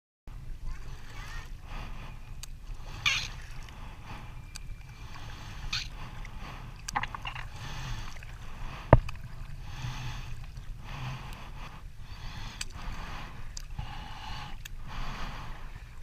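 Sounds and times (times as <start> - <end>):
low rumble of wind and water: 0.3 - 16.0.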